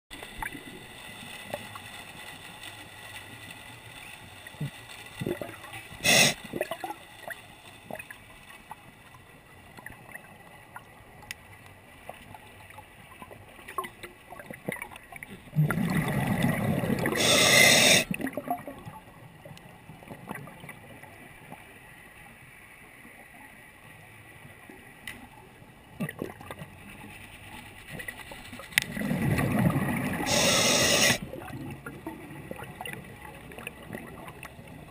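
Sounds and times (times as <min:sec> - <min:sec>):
low underwater hiss: 0:00.2 - 0:13.8, 0:15.5 - 0:34.9.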